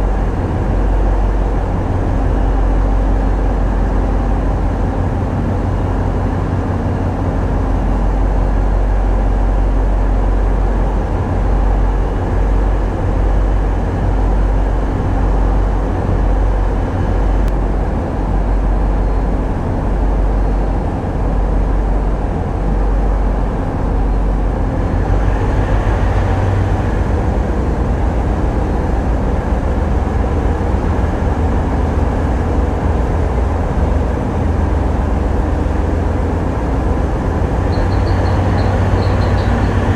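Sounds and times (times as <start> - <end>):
boat diesel engines rumbling: 0.0 - 39.9.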